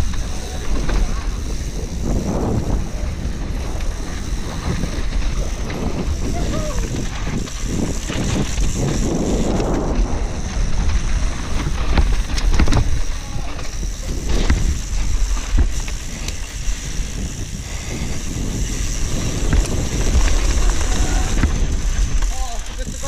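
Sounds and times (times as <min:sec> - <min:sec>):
bike rattling and knocking: 0:00.0 - 0:23.0
tyre noise: 0:00.0 - 0:23.0
wind buffeting microphone: 0:00.0 - 0:23.0.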